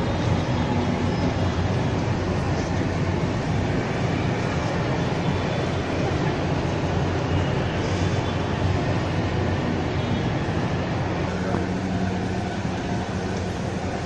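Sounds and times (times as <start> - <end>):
low rumbling street noise: 0.0 - 14.0.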